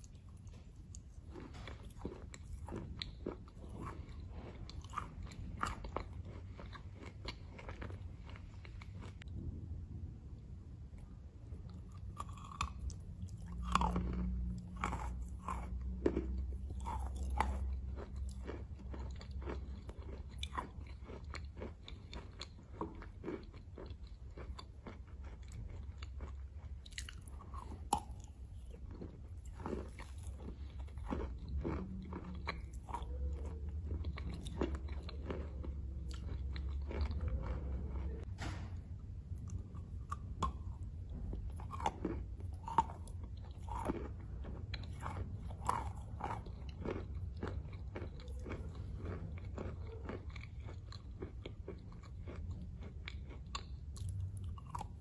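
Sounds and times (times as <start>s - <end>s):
chewing crunchy chalk: 0.0s - 9.3s, 11.5s - 38.3s, 39.4s - 55.0s.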